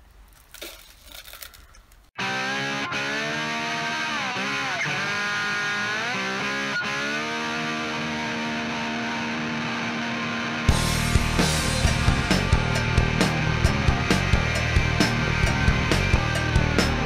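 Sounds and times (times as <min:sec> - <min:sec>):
electric guitar sustained notes: 0:02.2 - 0:17.0.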